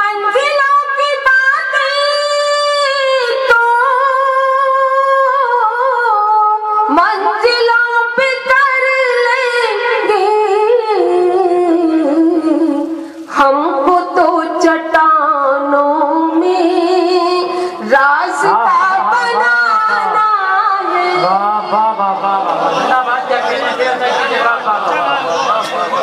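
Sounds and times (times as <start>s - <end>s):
woman singing: 0.0s - 22.1s.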